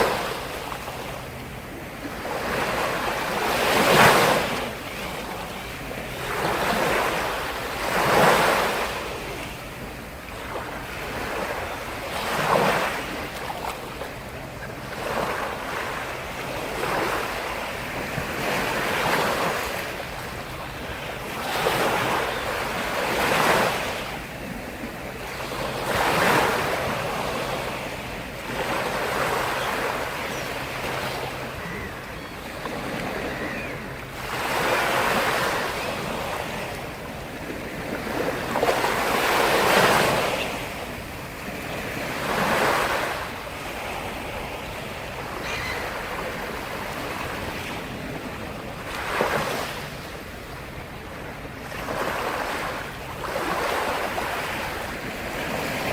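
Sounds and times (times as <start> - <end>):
sea waves breaking: 0.0 - 55.9.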